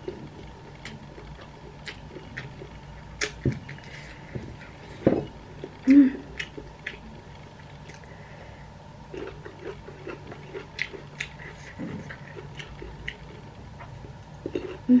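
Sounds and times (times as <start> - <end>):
person chewing: 0.0 - 5.0, 5.6 - 8.2, 9.1 - 14.9.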